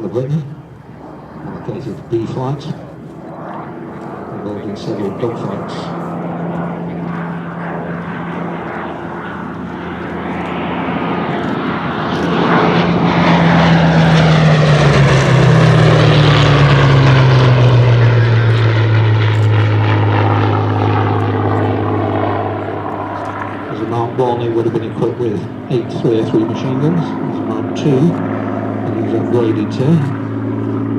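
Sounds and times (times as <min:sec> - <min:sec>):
propeller plane engine passing: 0:00.0 - 0:30.9.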